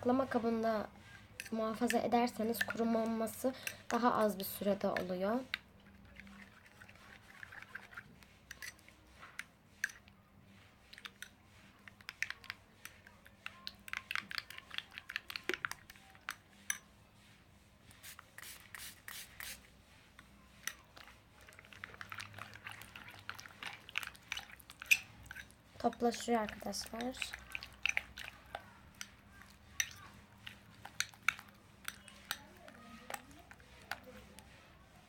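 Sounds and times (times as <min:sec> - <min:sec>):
slime being stirred: 0:00.0 - 0:35.0.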